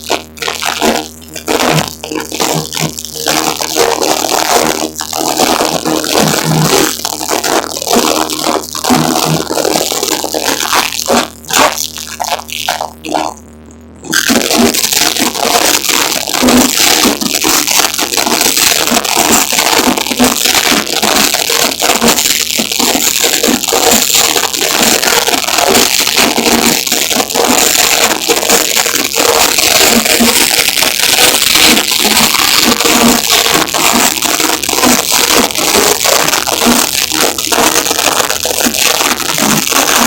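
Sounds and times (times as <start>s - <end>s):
distorted crowd din: 0.0s - 40.0s.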